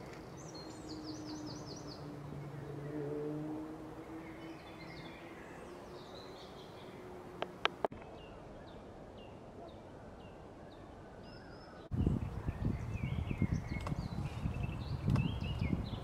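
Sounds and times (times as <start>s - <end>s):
bird warbling song: 0.0s - 3.1s, 4.0s - 16.0s
birds chirping: 0.0s - 16.0s.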